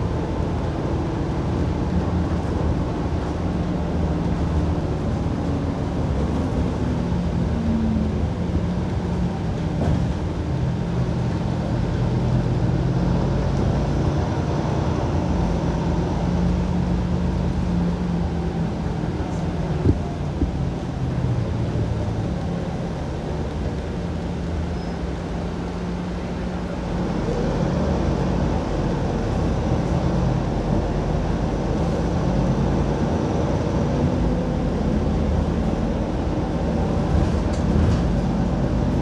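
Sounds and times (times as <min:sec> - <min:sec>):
bus engine drone: 0:00.0 - 0:39.0.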